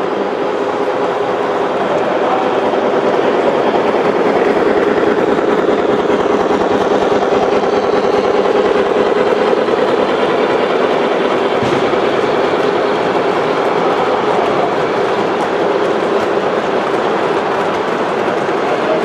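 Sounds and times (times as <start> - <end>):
constant hum: 0.0 - 19.0
model train wheels rattling: 0.0 - 19.0.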